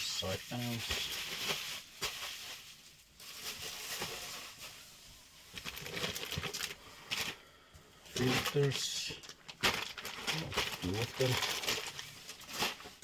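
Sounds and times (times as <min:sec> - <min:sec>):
packaging rustling: 0:00.3 - 0:07.5, 0:08.1 - 0:13.0.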